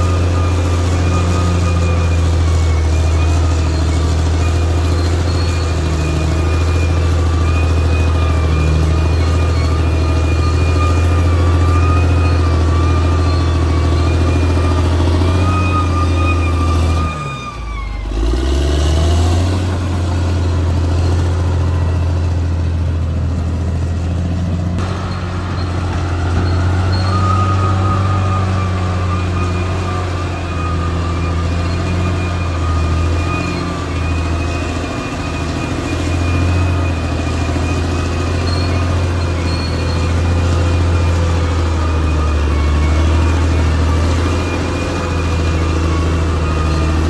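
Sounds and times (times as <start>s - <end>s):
bulldozer diesel engine under load: 0.0s - 47.0s.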